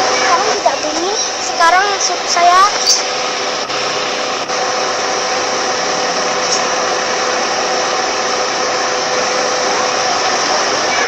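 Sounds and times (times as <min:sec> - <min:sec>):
air conditioning fan whirring: 0:00.0 - 0:11.0.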